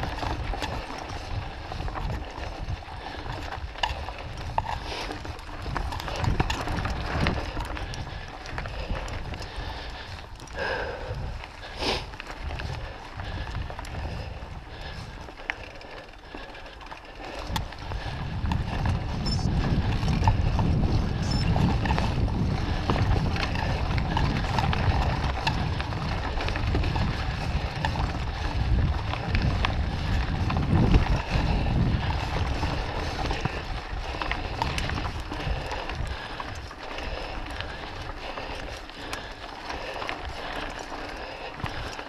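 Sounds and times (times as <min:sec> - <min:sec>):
bike rattling and clicking: 0:00.0 - 0:42.0
tyres rolling over dirt: 0:00.0 - 0:42.0
wind buffeting microphone: 0:00.0 - 0:42.0.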